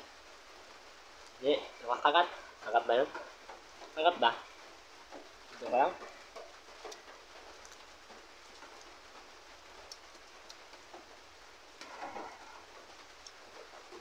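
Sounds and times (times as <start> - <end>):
faint rain on roof: 0.0 - 14.0
raindrop ticks: 0.0 - 14.0.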